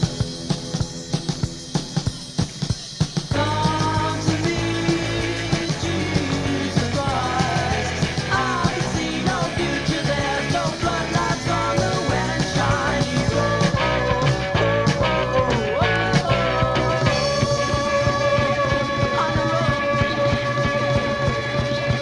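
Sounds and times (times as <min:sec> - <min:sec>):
rock band playing: 0:00.0 - 0:22.0.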